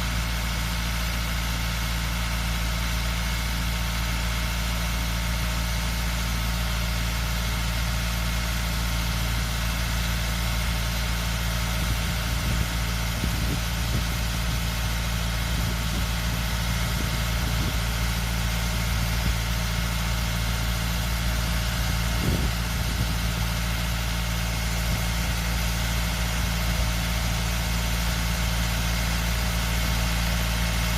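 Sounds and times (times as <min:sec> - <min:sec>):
tractor engine idling: 0:00.0 - 0:30.9.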